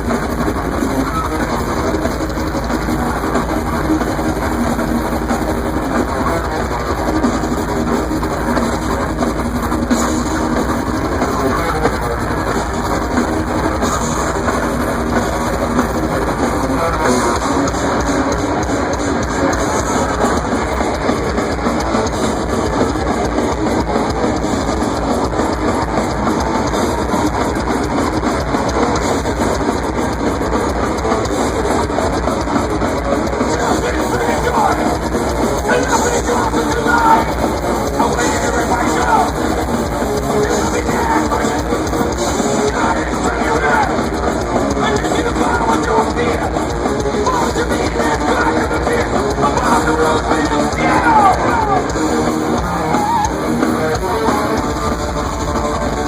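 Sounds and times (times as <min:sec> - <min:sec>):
distorted electric guitars: 0:00.0 - 0:56.0
drums: 0:00.0 - 0:56.0.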